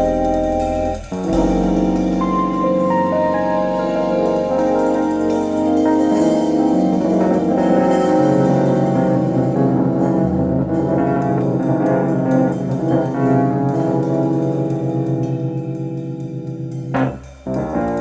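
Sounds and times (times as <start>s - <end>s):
instrumental music over loudspeakers: 0.0s - 15.8s
steady low bass note: 0.0s - 17.2s.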